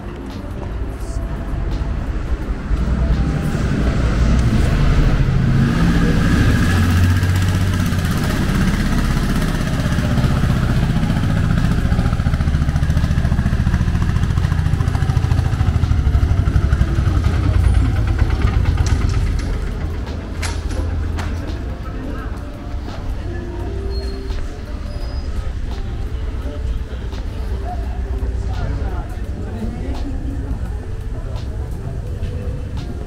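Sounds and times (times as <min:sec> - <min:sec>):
motorcycle engine running: 0:00.2 - 0:33.0.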